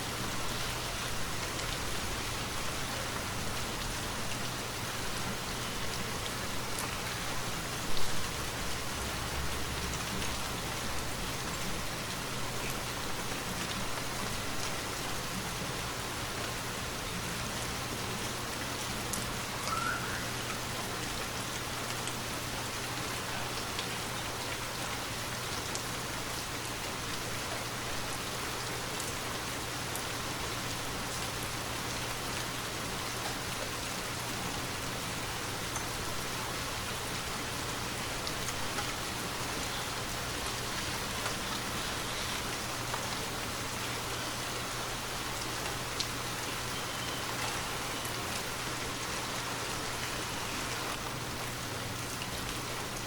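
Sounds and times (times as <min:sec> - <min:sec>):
rain pattering on foliage: 0:00.0 - 0:53.0.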